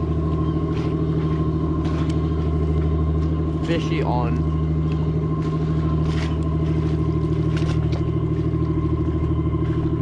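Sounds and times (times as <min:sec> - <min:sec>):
pulsing engine drone: 0:00.0 - 0:10.0.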